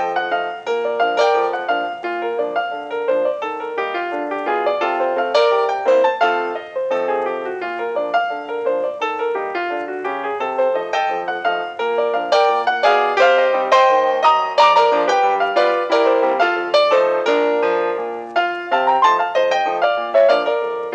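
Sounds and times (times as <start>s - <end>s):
piano music: 0.0s - 20.9s.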